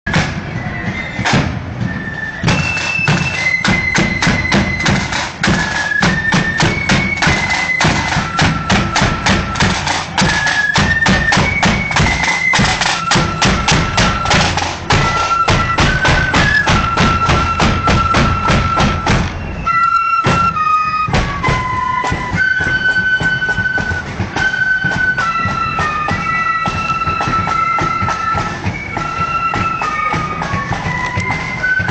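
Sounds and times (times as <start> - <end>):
flute melody: 0.1 - 31.9
snare and bass drumming: 0.1 - 31.9.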